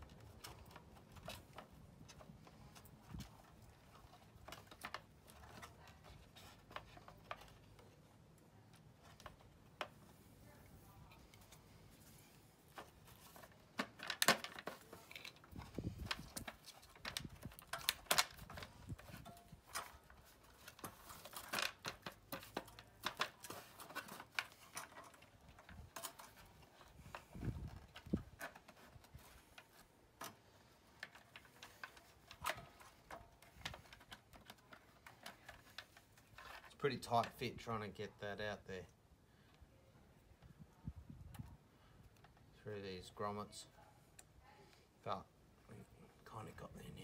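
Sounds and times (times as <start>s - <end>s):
wiring and plastic clicking and rattling: 0.0s - 43.5s.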